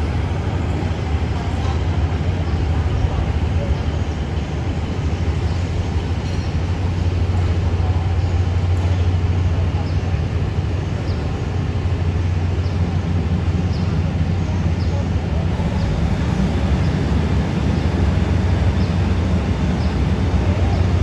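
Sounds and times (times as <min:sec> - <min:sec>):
diesel railcar engine rumbling: 0:00.0 - 0:21.0.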